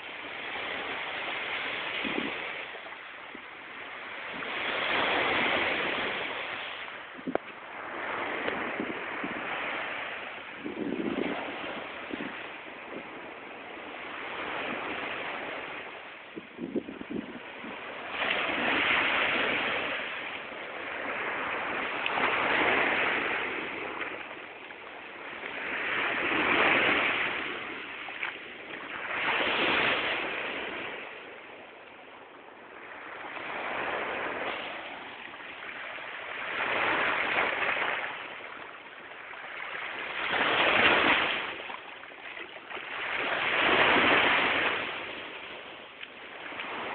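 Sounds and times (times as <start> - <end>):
small waves breaking on beach: 0.0 - 46.9.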